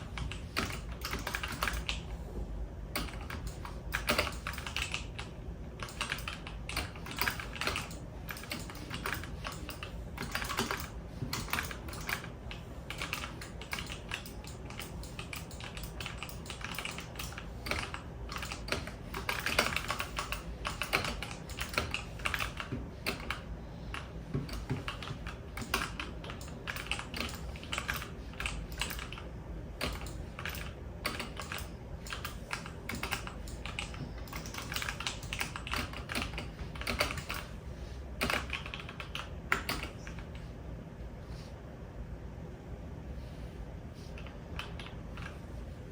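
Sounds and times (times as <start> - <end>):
keyboard typing: 0.0 - 2.2, 2.9 - 37.6, 38.2 - 40.5.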